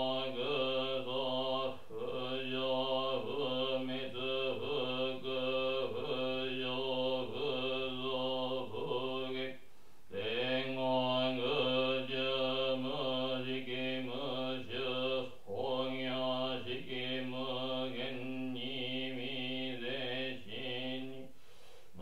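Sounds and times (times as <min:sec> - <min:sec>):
man chanting in low monotone: 0:00.0 - 0:21.3.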